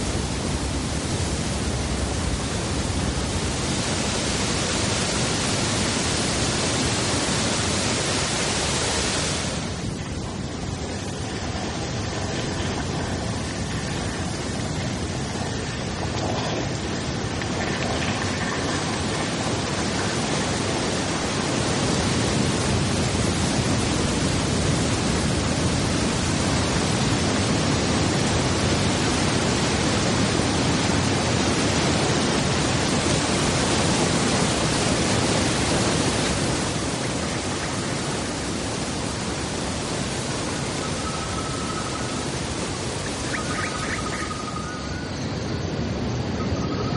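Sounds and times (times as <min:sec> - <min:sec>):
waterfall rushing: 0:00.0 - 0:46.4.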